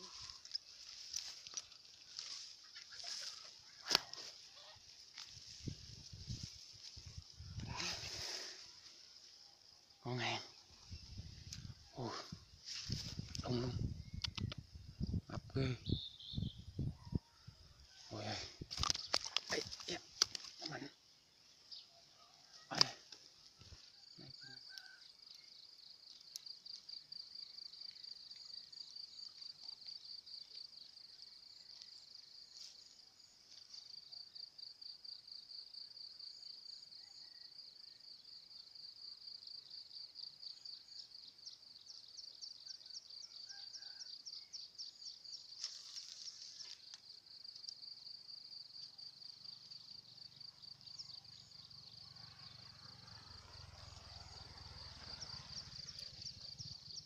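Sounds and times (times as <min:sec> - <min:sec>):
insects chirping trill: 0:00.0 - 0:57.0.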